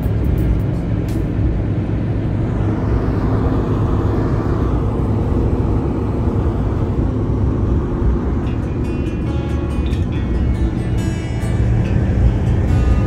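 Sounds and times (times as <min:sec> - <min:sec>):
road and wind noise in cab: 0:00.0 - 0:13.0.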